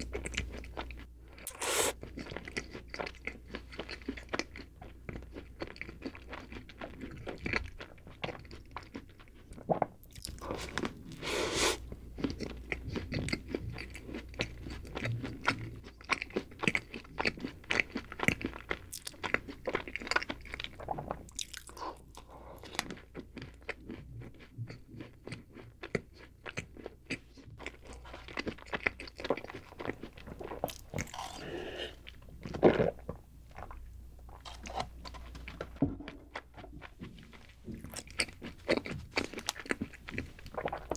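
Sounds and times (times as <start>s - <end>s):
chewing with crisp crackles: 0.0s - 40.9s.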